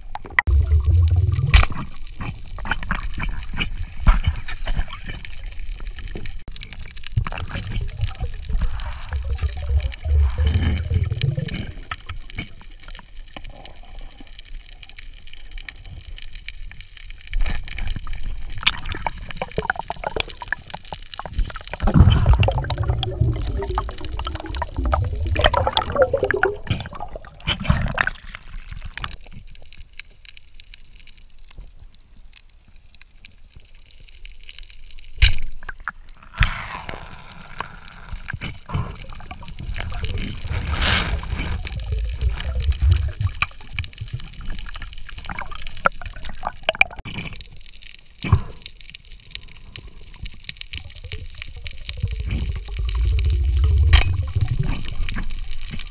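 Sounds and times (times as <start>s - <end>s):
water gurgling and sloshing: 0.0s - 14.4s, 15.0s - 30.0s, 35.2s - 48.5s, 49.4s - 55.9s
low rumbles of movement: 0.0s - 29.5s, 36.5s - 47.1s, 49.6s - 55.9s.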